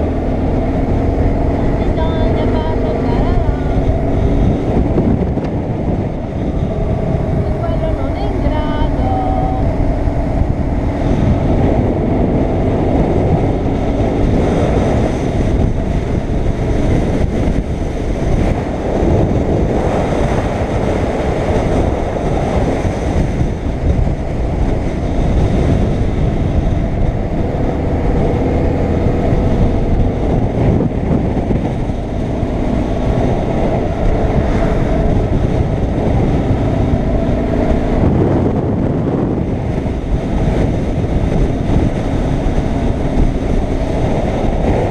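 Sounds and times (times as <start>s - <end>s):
motorcycle engine running: 0.0s - 44.9s
wind on microphone: 0.0s - 44.9s.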